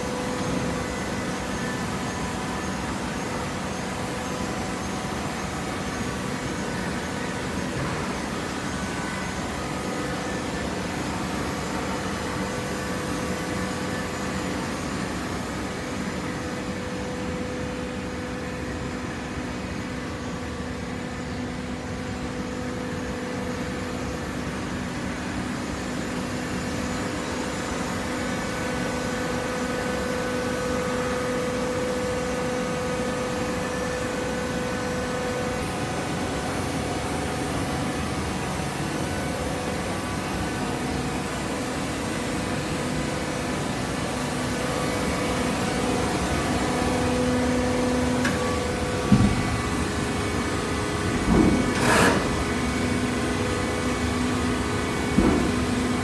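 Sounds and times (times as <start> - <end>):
hydraulic baler machine hum: 0.0 - 56.0.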